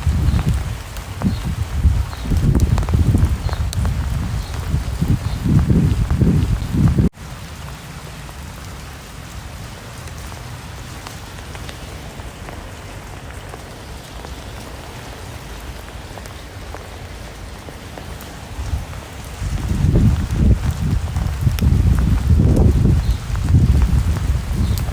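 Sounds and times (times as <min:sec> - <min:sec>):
rain falling: 0:00.0 - 0:24.9.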